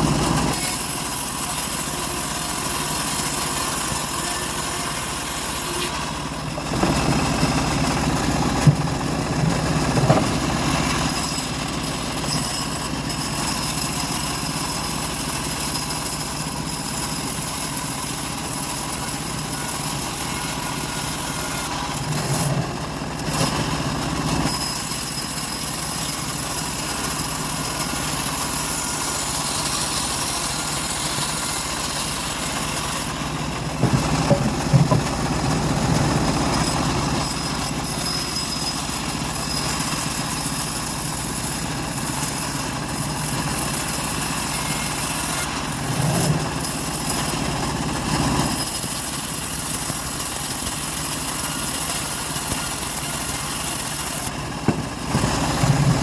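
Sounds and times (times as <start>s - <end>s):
bandsaw engine running: 0.0s - 56.0s.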